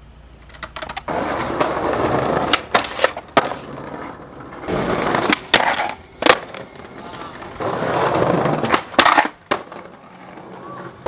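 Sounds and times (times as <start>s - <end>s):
skateboard wheels rolling on stone: 0.3s - 11.0s
skateboard clacks: 0.4s - 11.0s.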